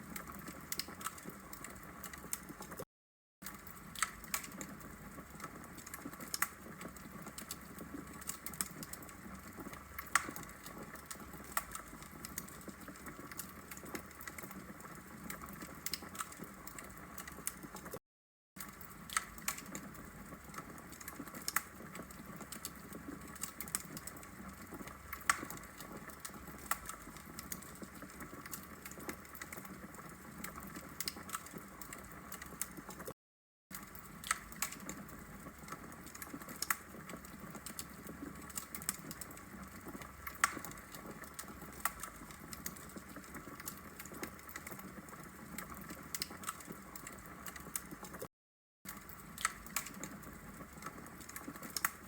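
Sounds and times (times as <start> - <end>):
fire crackling and popping: 0.0 - 2.8, 3.4 - 18.0, 18.6 - 48.3, 48.9 - 52.0
soft steady fire hiss: 0.0 - 2.8, 3.4 - 18.0, 18.6 - 48.3, 48.9 - 52.0.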